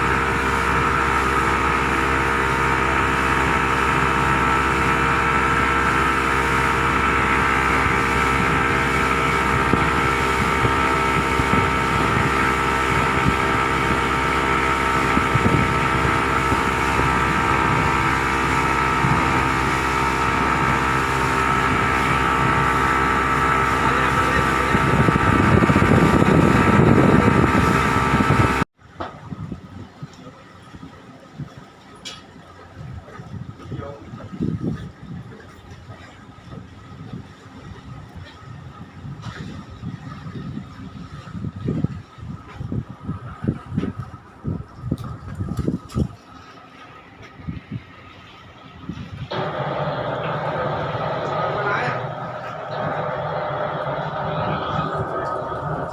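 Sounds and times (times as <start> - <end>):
boat engine droning: 0.0 - 55.9
wind noise on microphone: 0.0 - 55.9.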